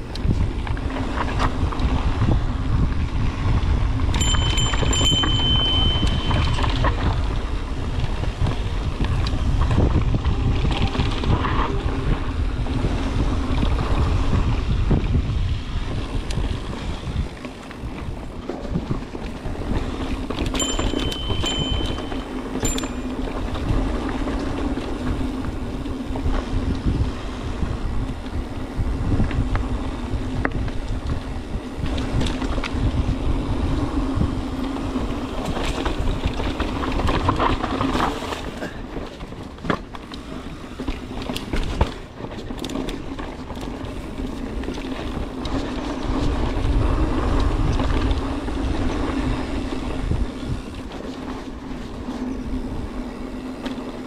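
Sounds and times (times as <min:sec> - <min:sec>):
tyres rumbling over dirt trail: 0:00.0 - 0:54.0
wind buffeting microphone: 0:00.0 - 0:54.0.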